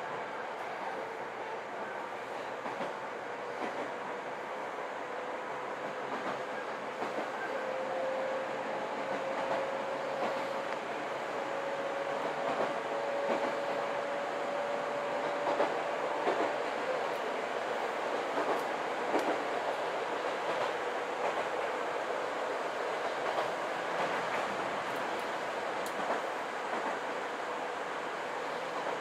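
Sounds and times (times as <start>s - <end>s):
train running rumble: 5.6s - 29.0s.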